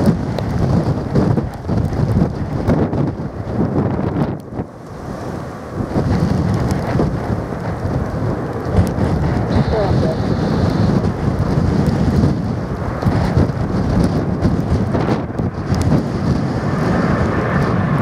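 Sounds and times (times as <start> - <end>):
gusty wind buffeting microphone: 0.0 - 18.0.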